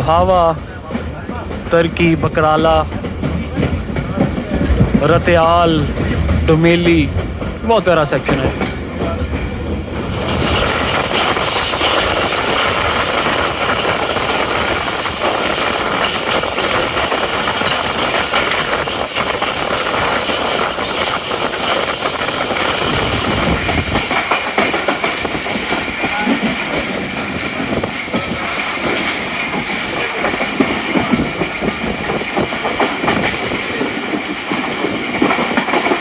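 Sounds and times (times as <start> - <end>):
train rushing and rumbling: 0.0 - 36.0
wheels clattering on rails: 0.0 - 36.0.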